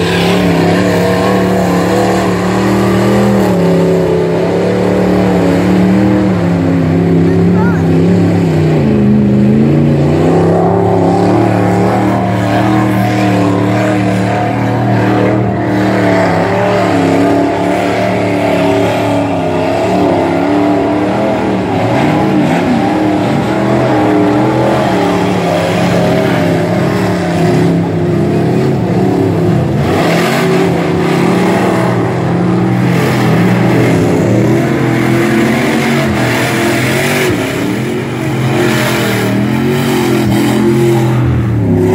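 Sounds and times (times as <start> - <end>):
truck engine revving under load: 0.0 - 41.9.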